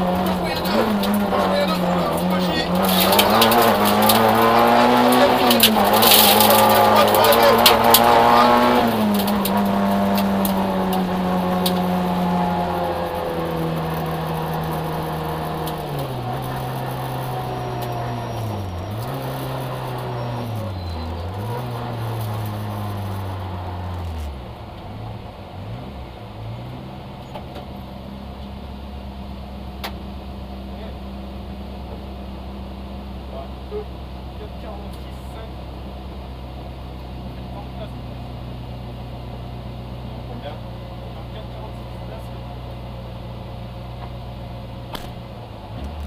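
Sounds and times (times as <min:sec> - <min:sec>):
car engine running hard: 0:00.0 - 0:46.0.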